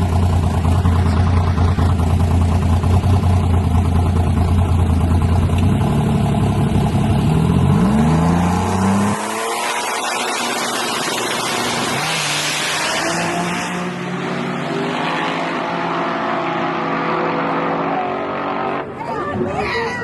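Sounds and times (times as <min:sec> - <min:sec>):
engine drone: 0:00.0 - 0:19.6.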